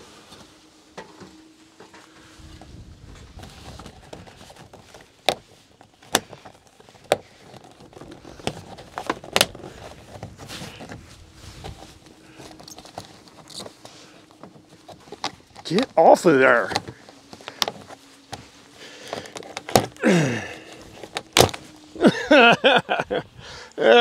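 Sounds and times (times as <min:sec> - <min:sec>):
plastic rattling and scraping: 0:00.9 - 0:21.9.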